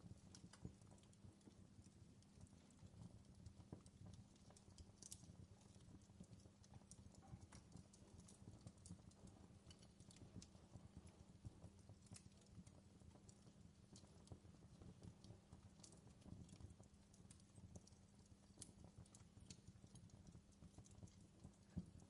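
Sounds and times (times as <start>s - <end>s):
campfire crackling: 0.0s - 22.0s
burning wood popping: 0.1s - 22.0s.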